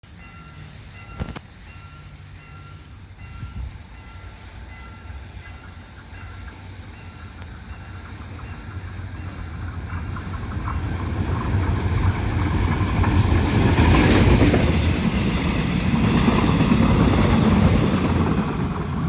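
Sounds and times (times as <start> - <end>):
diesel locomotive rumble: 0.0 - 19.0.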